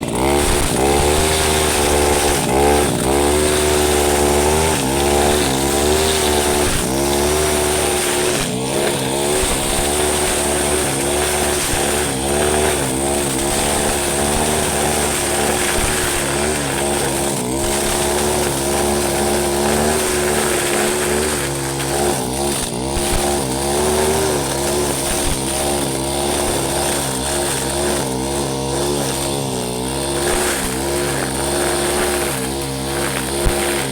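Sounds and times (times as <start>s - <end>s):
brush cutter engine at low throttle: 0.0s - 33.9s.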